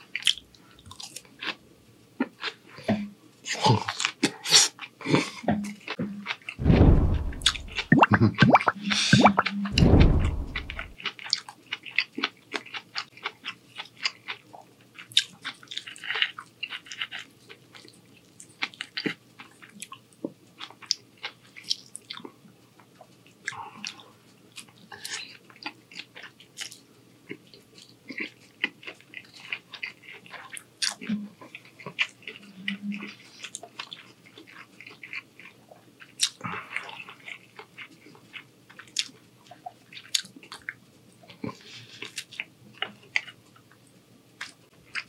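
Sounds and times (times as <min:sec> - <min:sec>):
person chewing food: 0:00.0 - 0:01.6, 0:02.2 - 0:02.7, 0:10.4 - 0:43.8, 0:44.4 - 0:45.0.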